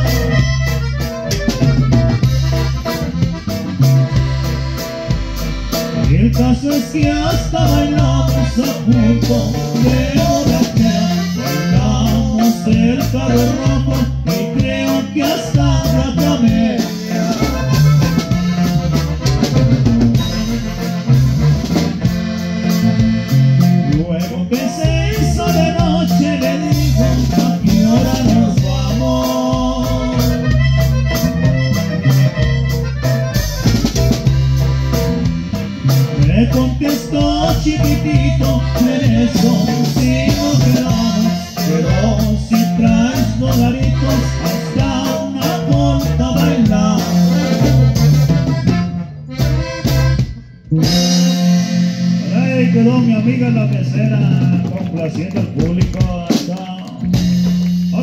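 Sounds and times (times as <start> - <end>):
accordion melody: 0.0 - 58.0
steady bass beat: 0.0 - 58.0
strummed guitar: 0.0 - 58.0.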